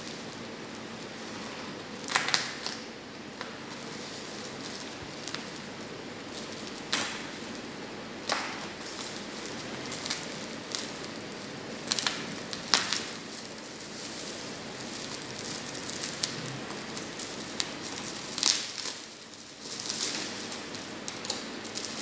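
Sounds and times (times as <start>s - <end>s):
packaging rustling: 0.0s - 22.0s
packaging crackles and taps: 2.0s - 22.0s.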